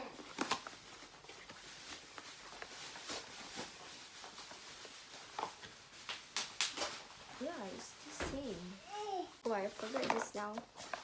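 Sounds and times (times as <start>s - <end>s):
packaging clicks and rustles: 0.0s - 7.5s, 9.5s - 11.0s.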